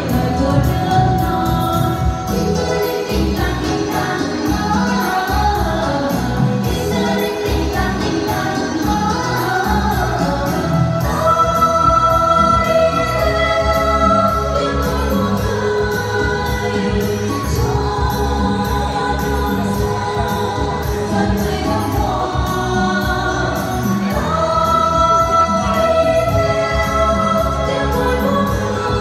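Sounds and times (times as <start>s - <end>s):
instrumental accompaniment with beat: 0.0s - 29.0s
women singing together: 0.0s - 29.0s.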